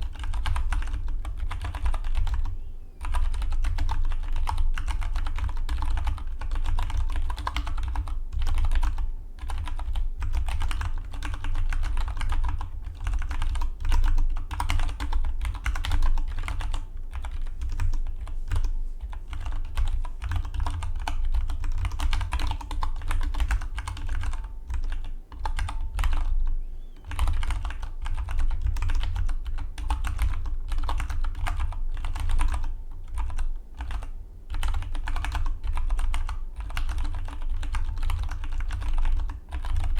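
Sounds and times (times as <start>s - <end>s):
fast typing on mechanical keyboard: 0.0s - 26.3s, 27.0s - 39.9s.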